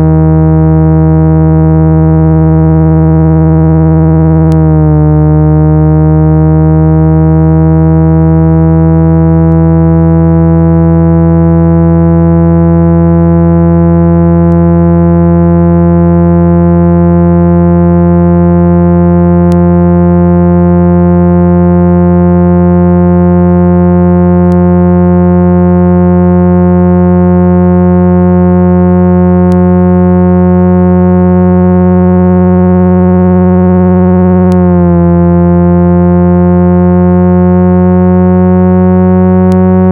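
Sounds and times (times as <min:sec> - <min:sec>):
buzzy speaker-cleaning tone: 0:00.0 - 0:39.9.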